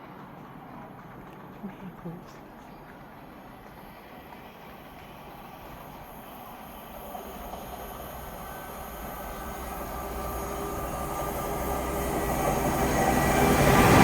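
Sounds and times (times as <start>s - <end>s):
diesel train approaching: 0.0s - 14.0s.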